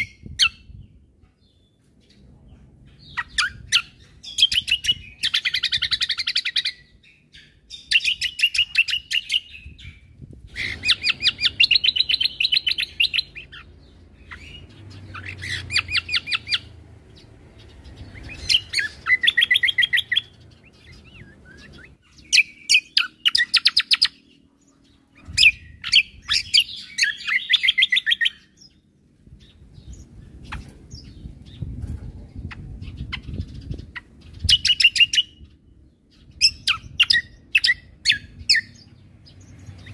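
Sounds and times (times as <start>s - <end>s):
bird singing rapid stuttering trills: 3.0s - 39.9s.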